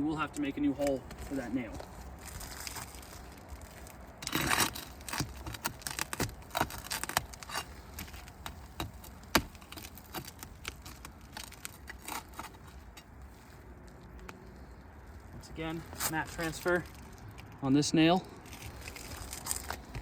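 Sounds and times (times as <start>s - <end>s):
roof shingles tearing and scraping: 0.7s - 17.6s, 18.4s - 20.0s.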